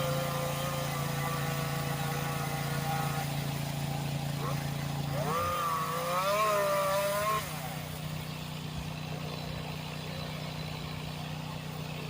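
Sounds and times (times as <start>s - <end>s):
small petrol engine idling: 0.0s - 12.0s.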